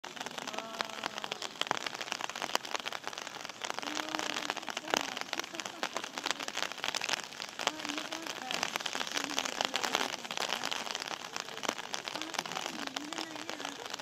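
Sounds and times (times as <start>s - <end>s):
rain on hard ground: 0.0s - 14.0s.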